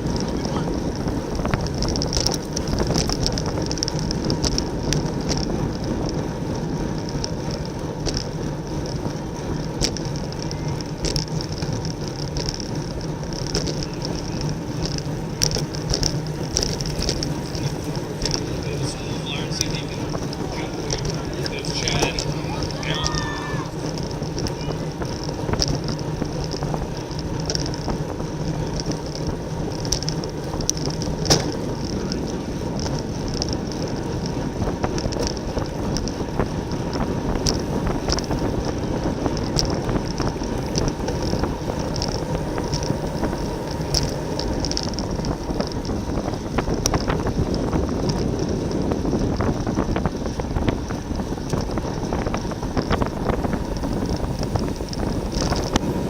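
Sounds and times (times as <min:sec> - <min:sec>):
bike clicks and rattles: 0:00.0 - 0:56.0
tyre and road noise: 0:00.0 - 0:56.0
wind rushing over microphone: 0:00.0 - 0:56.0.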